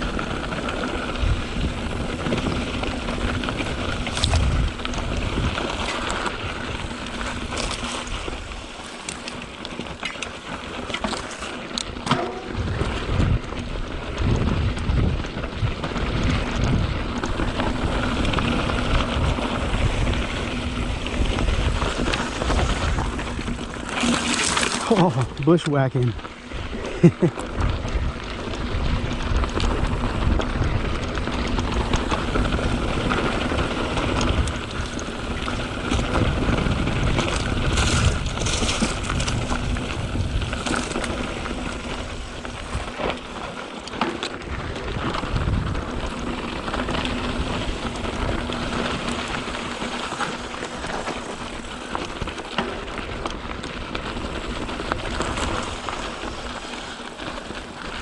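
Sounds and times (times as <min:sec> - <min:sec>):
wind rumble on microphone: 0:00.0 - 0:10.0, 0:10.6 - 0:58.0
bike tyres crackling over dirt: 0:00.0 - 0:58.0.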